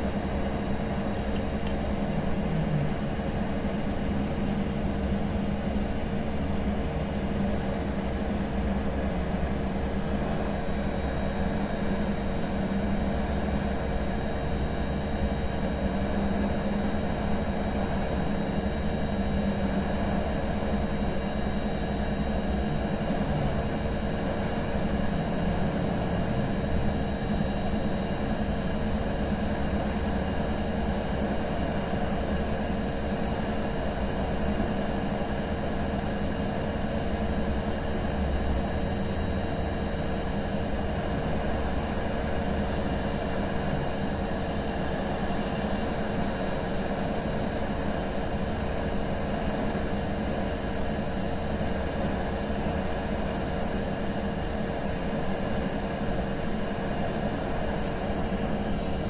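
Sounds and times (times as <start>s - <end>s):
hot-air fan hiss: 0.0s - 59.0s.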